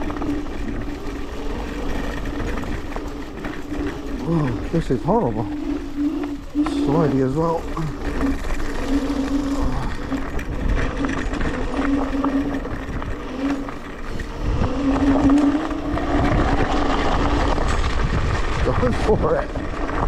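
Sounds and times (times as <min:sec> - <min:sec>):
electric scooter motor whining: 0:00.0 - 0:20.0
low riding rumble: 0:00.0 - 0:20.0.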